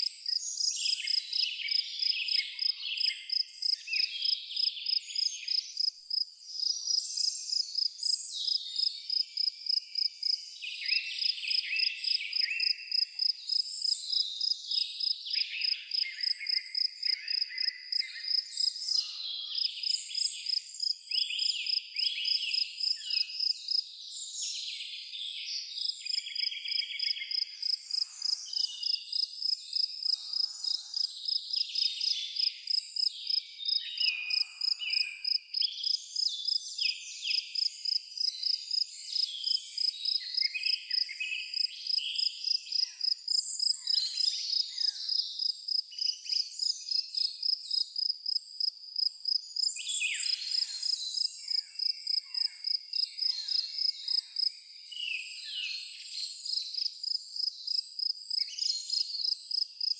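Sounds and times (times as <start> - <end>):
insect chirping: 0.0 - 11.3, 12.0 - 23.8, 25.8 - 36.6, 37.2 - 55.3, 56.4 - 59.9
birds singing: 0.0 - 47.8, 49.4 - 56.8.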